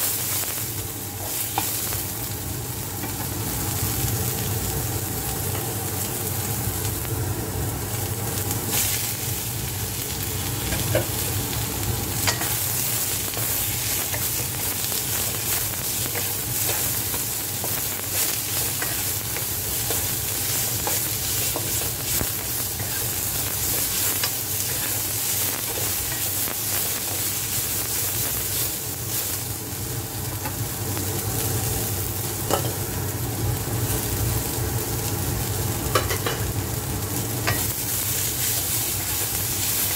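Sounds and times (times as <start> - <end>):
vegetables sizzling in hot oil: 0.0 - 39.9.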